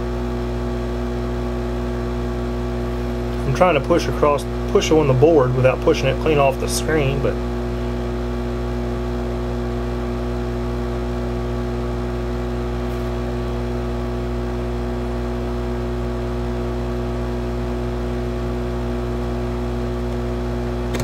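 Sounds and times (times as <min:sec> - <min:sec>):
air pump hum: 0:00.0 - 0:21.0.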